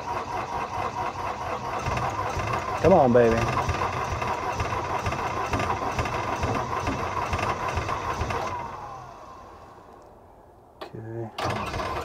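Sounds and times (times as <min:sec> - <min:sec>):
starter motor whine: 0:00.0 - 0:09.8, 0:11.4 - 0:12.0
diesel engine cranking: 0:00.0 - 0:10.0, 0:11.3 - 0:12.0.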